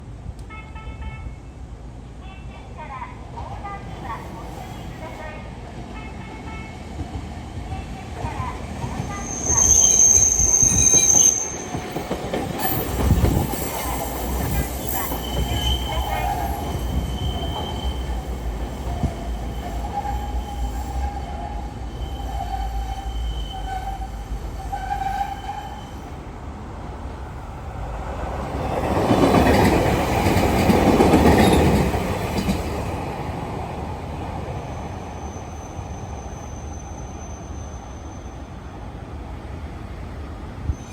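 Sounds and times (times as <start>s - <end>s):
train running past: 0.2s - 40.9s.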